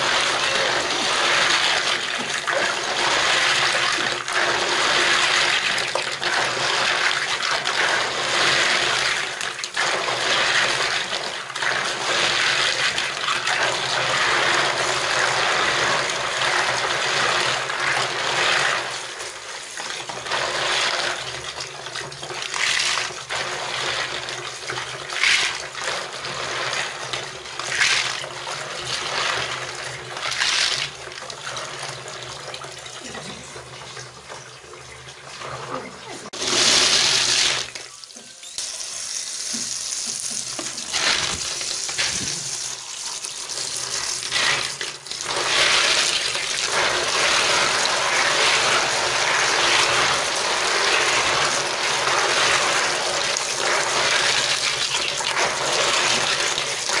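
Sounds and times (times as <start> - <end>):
tap water pouring into basin: 0.0 - 57.0.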